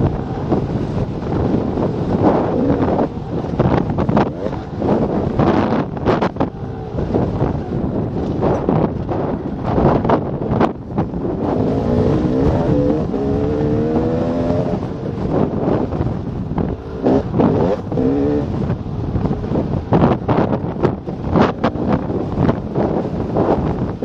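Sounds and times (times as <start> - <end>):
dirt bike engine accelerating: 0.0 - 24.0
wind buffeting microphone: 0.0 - 24.0.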